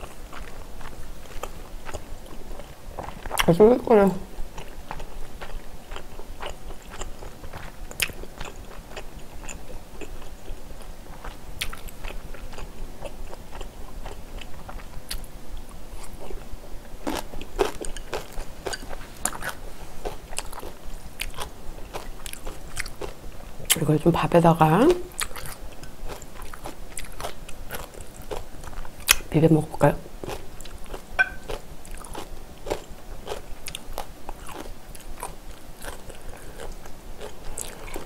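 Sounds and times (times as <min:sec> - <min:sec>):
close chewing with crunches: 0:00.0 - 0:03.8, 0:04.4 - 0:23.9, 0:25.1 - 0:29.3, 0:30.2 - 0:38.0.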